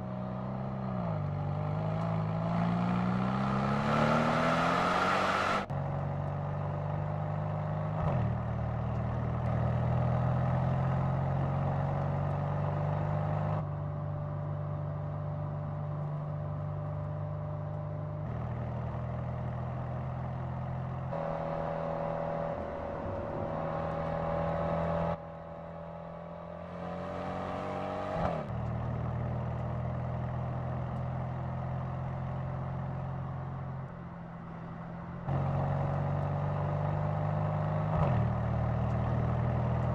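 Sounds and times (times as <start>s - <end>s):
car engine running under load: 0.0s - 39.9s.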